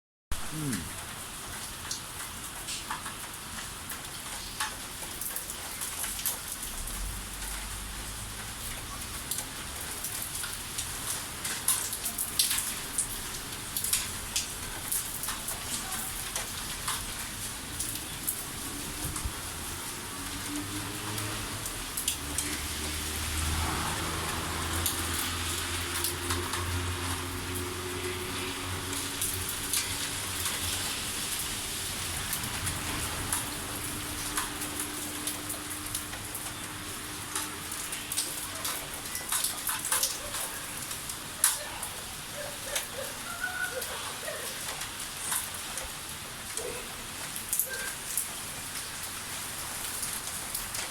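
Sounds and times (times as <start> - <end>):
heavy rain falling: 0.3 - 50.9
water dripping on surfaces: 0.5 - 50.9.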